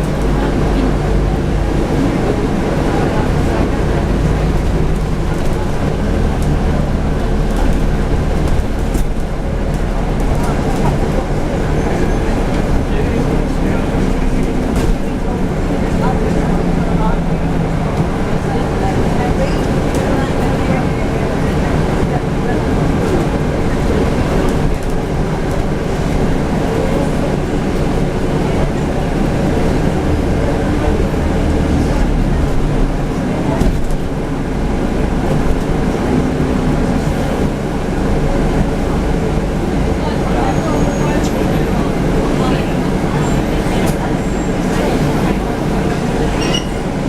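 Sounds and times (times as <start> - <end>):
bus diesel engine rumble: 0.0 - 47.0.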